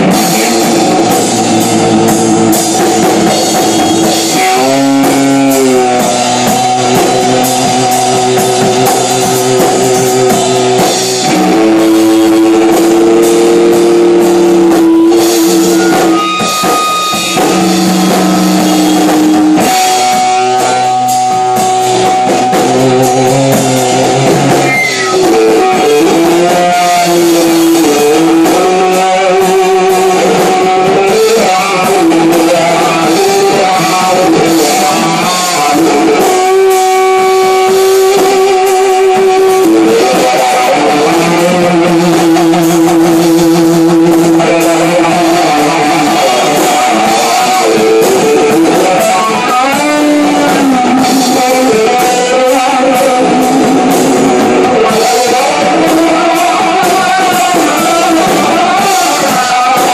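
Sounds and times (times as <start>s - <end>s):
drum kit: 0.0s - 59.9s
electric guitar playing riffs: 0.0s - 59.9s.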